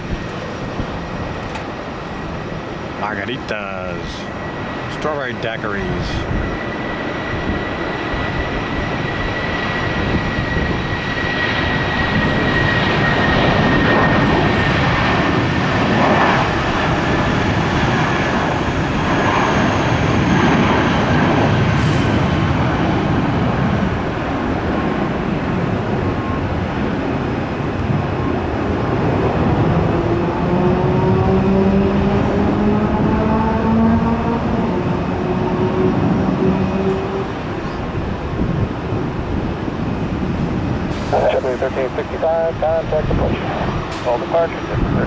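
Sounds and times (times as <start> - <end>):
jet engines at takeoff: 0.0 - 45.0.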